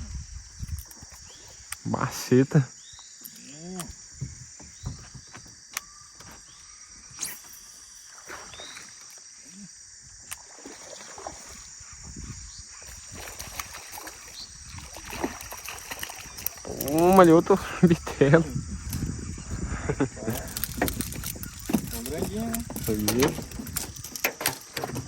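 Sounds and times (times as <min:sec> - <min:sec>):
insects chorus: 0:00.0 - 0:25.0.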